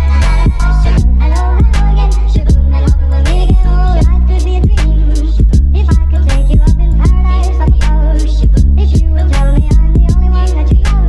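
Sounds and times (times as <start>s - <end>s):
music with heavy bass and vocals: 0.0s - 11.0s.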